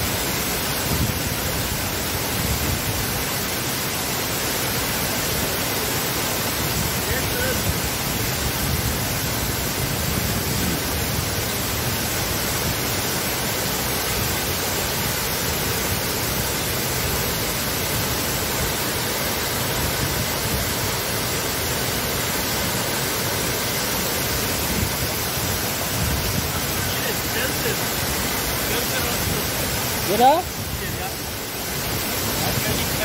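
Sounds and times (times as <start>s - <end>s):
waterfall rushing into a pool: 0.0s - 33.0s.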